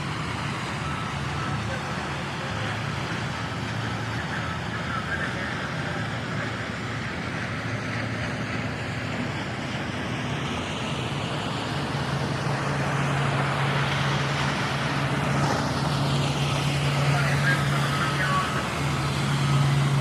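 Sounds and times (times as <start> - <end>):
low engine hum: 0.0 - 20.0
road noise: 0.0 - 20.0.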